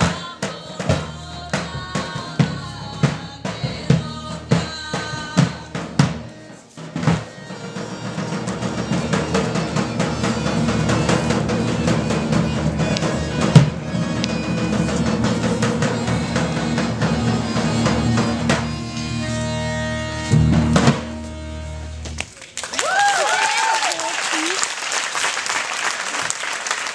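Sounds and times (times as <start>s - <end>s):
bass drum beating: 0.0s - 6.3s, 6.9s - 22.2s
folk dance band playing: 0.0s - 23.0s.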